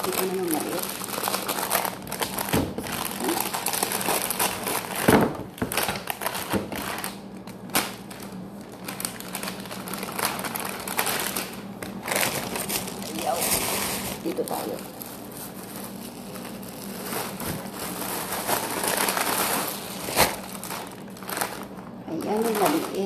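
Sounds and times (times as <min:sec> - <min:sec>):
plastic wrapping crinkling: 0:00.0 - 0:23.0.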